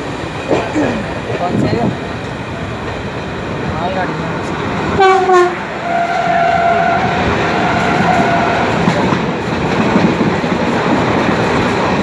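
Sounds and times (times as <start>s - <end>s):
train wheels clattering on track: 0.0s - 12.0s.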